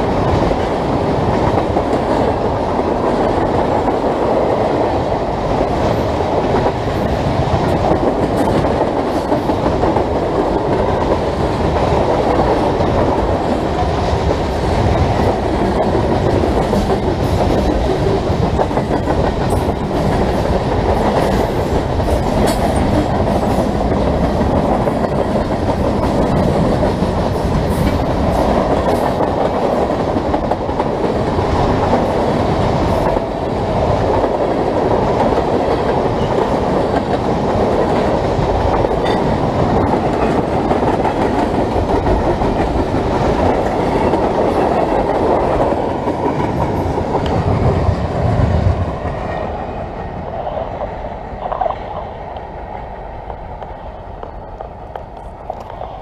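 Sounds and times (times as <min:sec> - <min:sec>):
freight train rumbling past: 0:00.0 - 0:56.0
wheels clicking over rail joints: 0:00.1 - 0:49.3.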